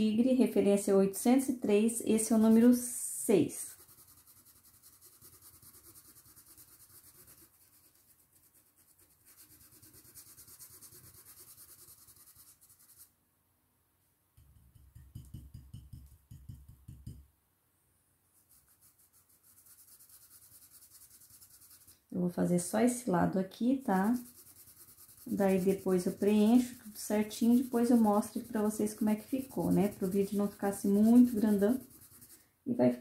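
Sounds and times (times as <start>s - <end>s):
stencil brush dabbing on fabric: 2.0s - 13.1s, 14.4s - 17.2s, 18.3s - 32.6s.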